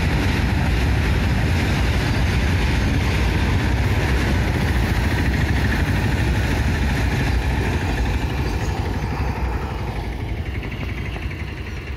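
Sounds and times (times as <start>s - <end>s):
engines idling: 0.0s - 11.9s
freight train rumbling past: 0.0s - 11.9s.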